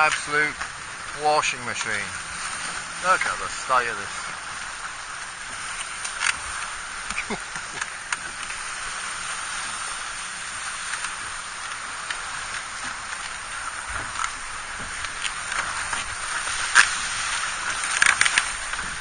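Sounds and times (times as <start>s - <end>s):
turbulent water hissing: 0.0s - 19.0s.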